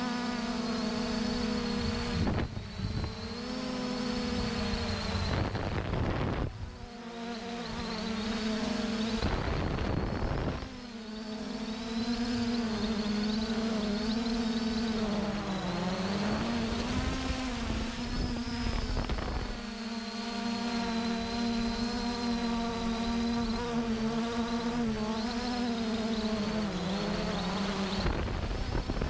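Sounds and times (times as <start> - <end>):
flying insect buzzing: 0.0 - 29.0.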